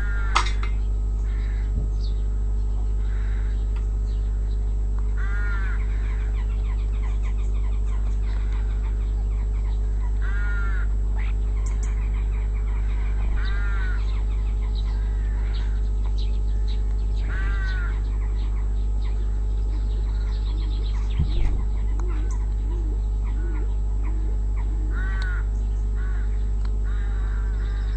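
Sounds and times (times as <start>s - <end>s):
crow cawing: 0.0s - 27.9s
small birds chirping: 0.0s - 27.9s
steady low hum: 0.0s - 27.9s.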